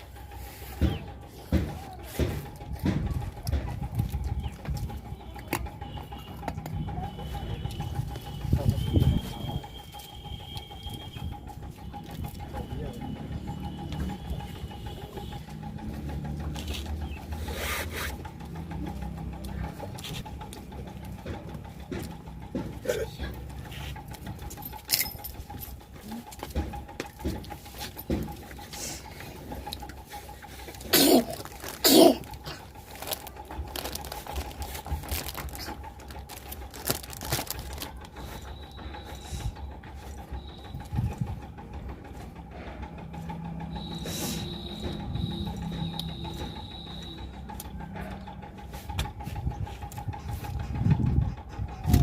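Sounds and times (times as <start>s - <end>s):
chewing with crunches: 2.2s - 52.0s.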